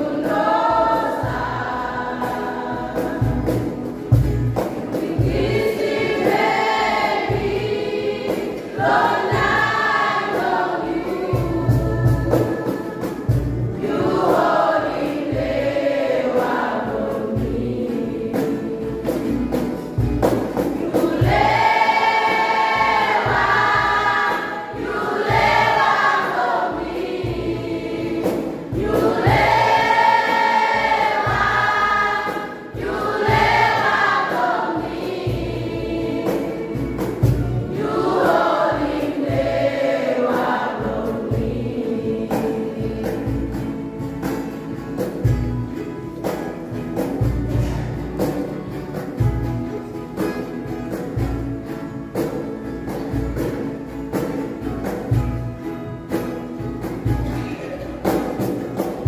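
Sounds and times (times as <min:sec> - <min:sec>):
children's choir singing gospel: 0:00.0 - 0:59.0.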